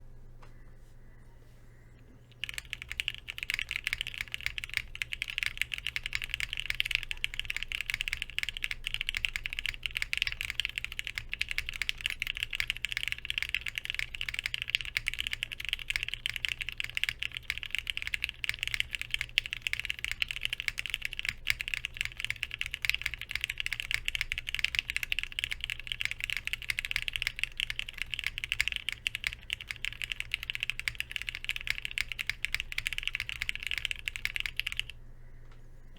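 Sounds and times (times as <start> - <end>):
fast typing on mechanical keyboard: 2.4 - 35.0.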